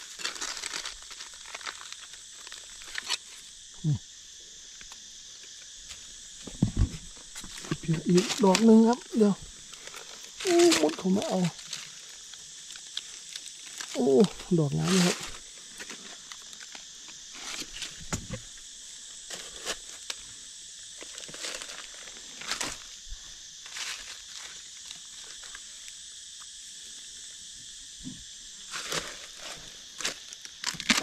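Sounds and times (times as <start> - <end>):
rustling in dry leaves: 0.0 - 4.0, 5.8 - 18.5, 19.2 - 20.3, 20.9 - 25.8, 28.6 - 31.0
forest insects droning: 0.0 - 31.0.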